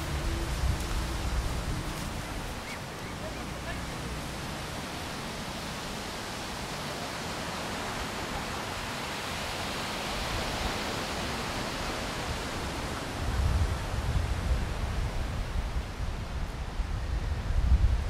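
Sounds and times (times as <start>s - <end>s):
wind buffeting microphone: 0.0s - 6.8s, 9.6s - 18.0s
surf washing onto beach: 0.0s - 18.0s.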